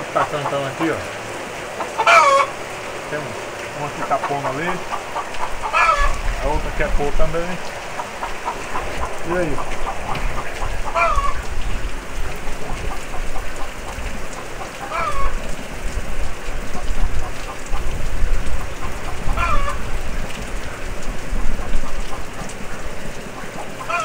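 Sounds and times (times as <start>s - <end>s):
hen cackling: 0.0s - 1.1s, 1.7s - 2.7s, 3.7s - 6.7s, 7.6s - 15.8s, 16.5s - 24.0s
rain falling on mud: 0.0s - 24.0s.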